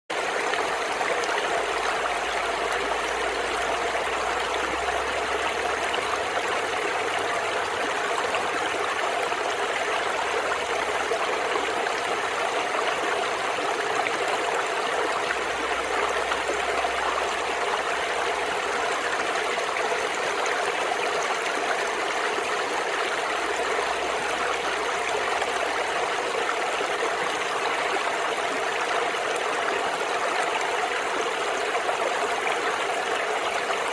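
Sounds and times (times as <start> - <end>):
brook babbling over stones: 0.1 - 33.9.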